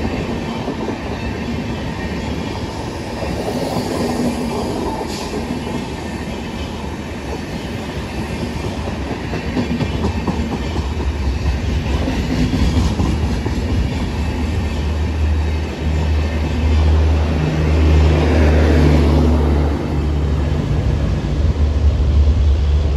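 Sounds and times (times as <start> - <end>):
passing train rushing: 0.0 - 22.9.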